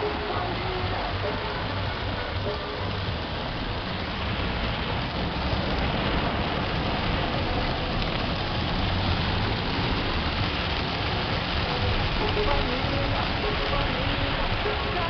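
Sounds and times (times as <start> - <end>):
heavy rain falling: 0.0 - 15.0
vehicle low rumble: 0.0 - 15.0.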